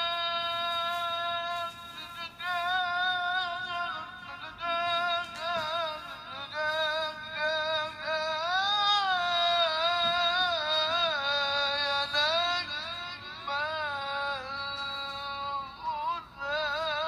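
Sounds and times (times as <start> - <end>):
person chanting into a microphone: 0.0 - 17.0.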